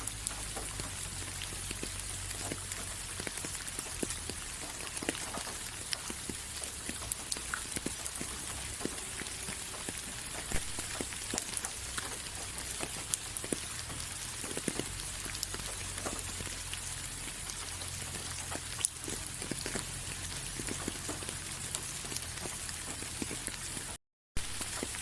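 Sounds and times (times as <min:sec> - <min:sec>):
rain hissing: 0:00.0 - 0:25.0
raindrops ticking on a surface: 0:00.0 - 0:25.0.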